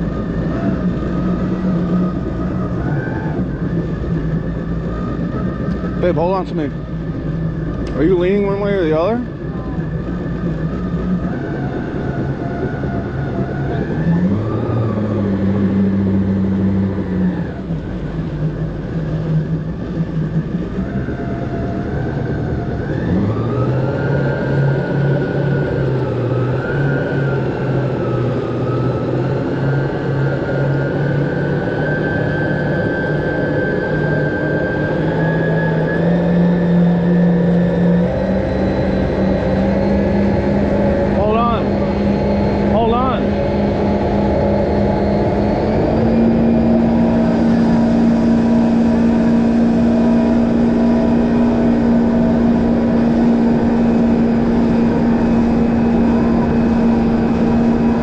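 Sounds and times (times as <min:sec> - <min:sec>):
jet ski engine running: 0:00.0 - 0:58.0.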